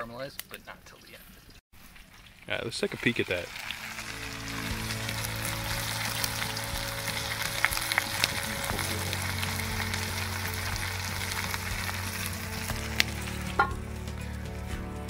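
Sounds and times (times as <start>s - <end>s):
meat sizzling in pot: 1.8s - 14.7s.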